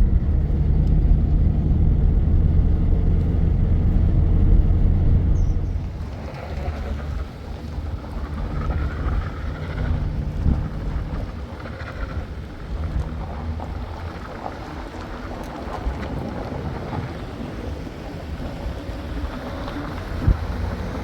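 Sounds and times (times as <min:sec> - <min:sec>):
vehicle rumbling: 0:00.0 - 0:21.0
wind noise: 0:00.0 - 0:21.0.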